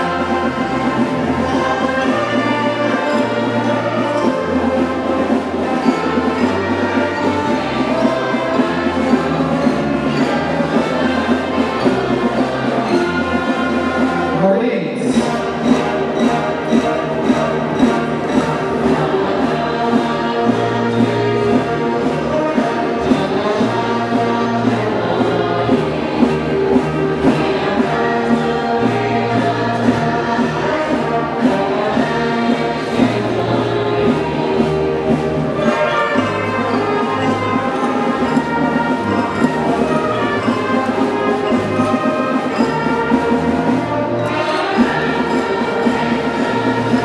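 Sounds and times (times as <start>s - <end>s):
orchestral music with choir: 0.0s - 47.0s.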